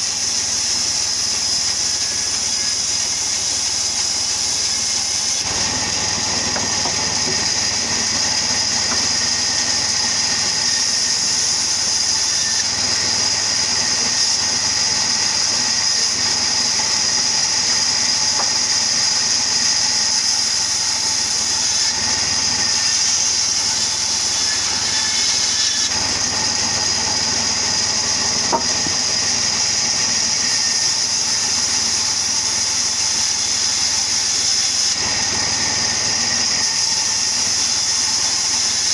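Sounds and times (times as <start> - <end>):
sawmill machine hissing and humming: 0.0 - 38.9.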